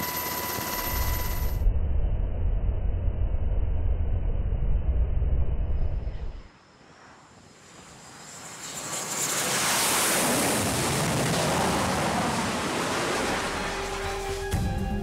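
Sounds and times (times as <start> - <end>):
jet engine rushing noise: 1.8 - 14.5.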